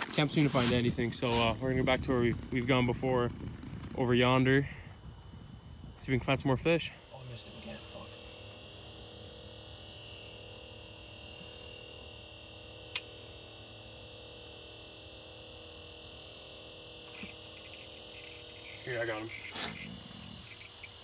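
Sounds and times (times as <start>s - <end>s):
electronic hum: 0.0s - 21.0s
faint high whine: 0.0s - 21.0s.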